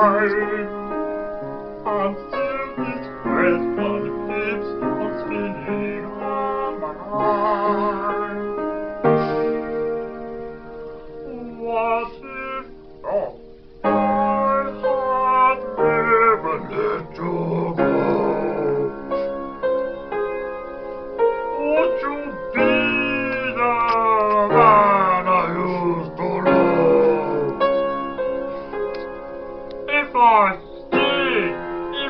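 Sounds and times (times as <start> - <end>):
person singing with vibrato: 0.0 - 9.6, 11.2 - 19.4, 21.6 - 27.8, 30.0 - 32.0
piano chords: 0.0 - 32.0.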